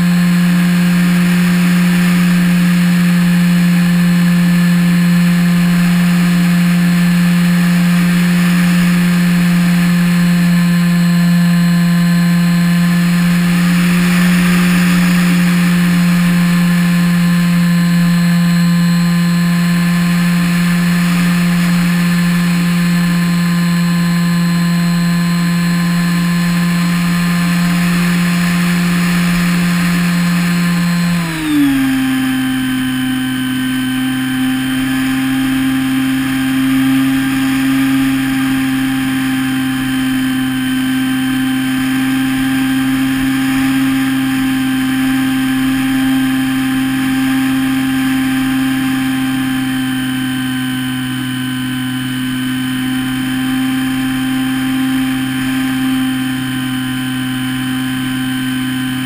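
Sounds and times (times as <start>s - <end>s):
model plane electric motor whine: 0.0s - 59.0s.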